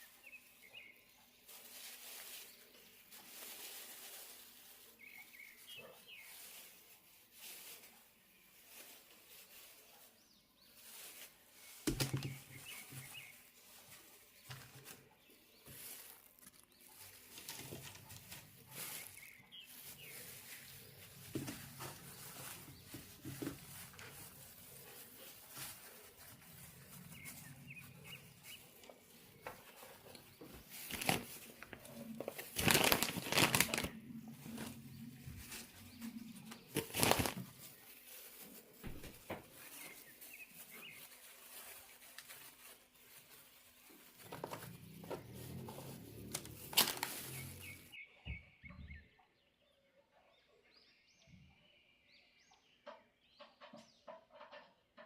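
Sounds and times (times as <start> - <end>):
rustling and crinkling handling: 0.0 - 48.0.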